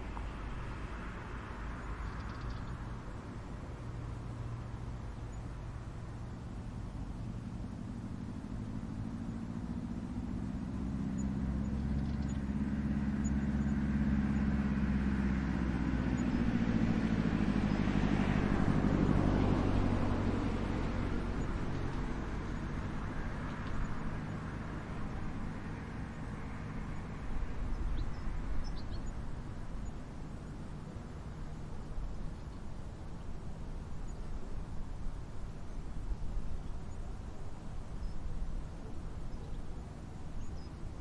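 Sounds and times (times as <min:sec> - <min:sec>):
vehicle passing by: 0:00.0 - 0:41.0.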